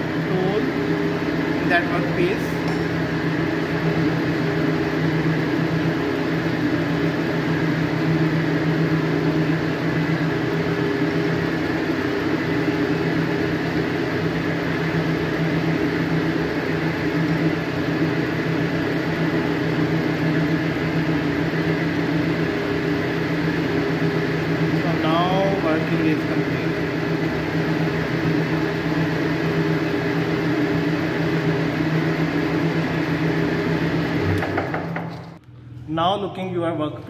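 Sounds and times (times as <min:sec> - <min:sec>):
lathe motor humming: 0:00.0 - 0:35.4.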